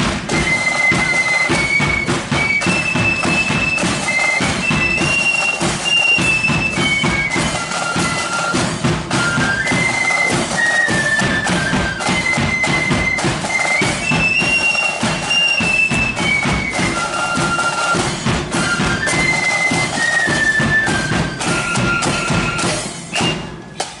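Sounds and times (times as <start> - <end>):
drum beat: 0.0 - 24.0
flute band melody: 0.0 - 24.0.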